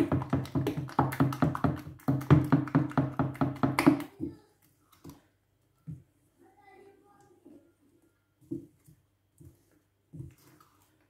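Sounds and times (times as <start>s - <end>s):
wooden stick stirring batter in pot: 0.0s - 6.6s, 7.2s - 11.0s.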